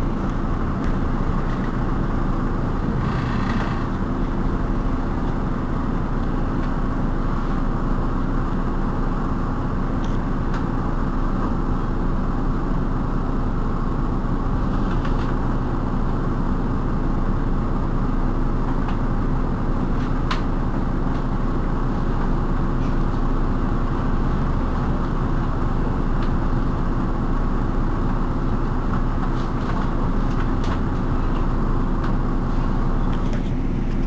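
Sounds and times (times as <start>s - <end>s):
bus engine idling: 0.0s - 34.0s.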